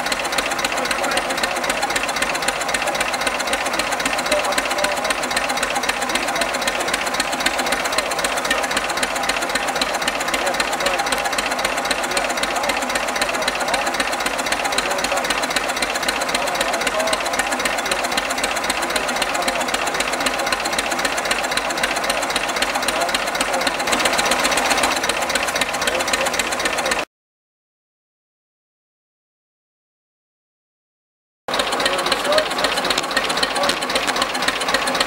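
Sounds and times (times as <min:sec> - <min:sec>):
tractor diesel engine idling: 0:00.0 - 0:27.1, 0:31.5 - 0:35.0.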